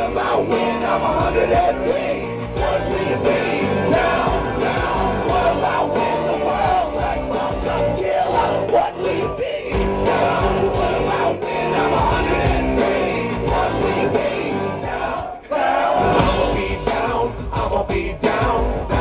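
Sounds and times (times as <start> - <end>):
loud live music: 0.0 - 19.0.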